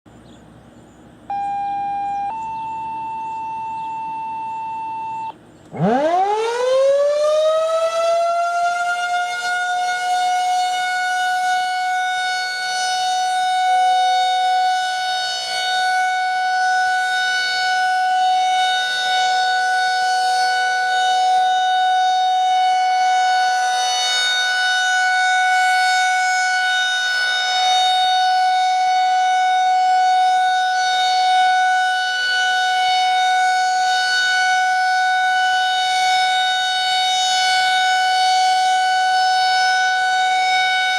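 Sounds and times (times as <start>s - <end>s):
warning siren wailing: 1.3s - 40.9s.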